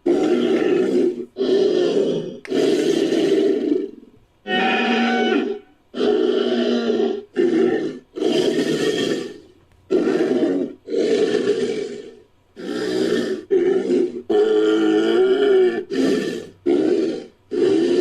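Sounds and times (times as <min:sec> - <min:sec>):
creature growls and roars: 0:00.0 - 0:18.0.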